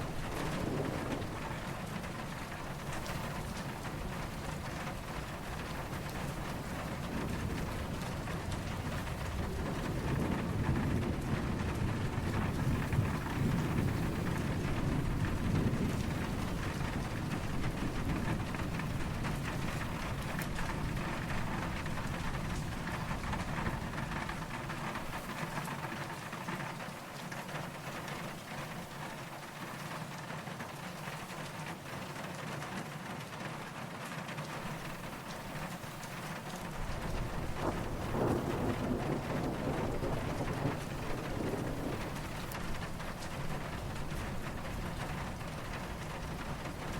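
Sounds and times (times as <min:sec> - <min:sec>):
distant thunder rumble: 0:00.0 - 0:29.8, 0:34.6 - 0:46.9
rain falling: 0:00.0 - 0:46.9.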